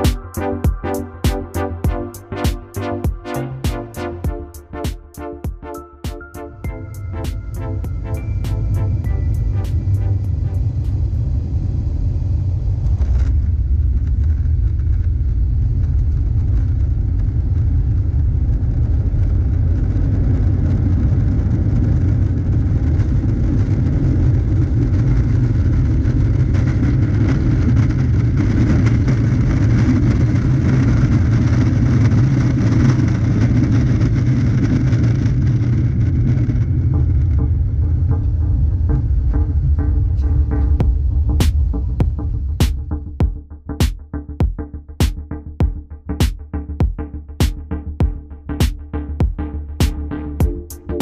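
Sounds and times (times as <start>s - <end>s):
airplane cabin engine roar: 0.0s - 43.2s.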